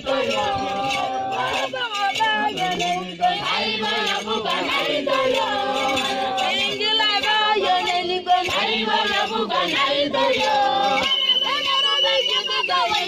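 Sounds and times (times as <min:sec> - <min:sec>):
group chanting together: 0:00.0 - 0:01.8, 0:02.4 - 0:12.2.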